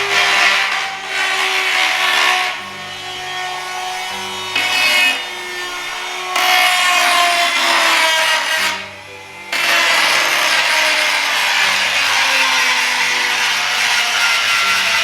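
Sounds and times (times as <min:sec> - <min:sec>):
electric grinder grinding tile: 0:00.0 - 0:15.0.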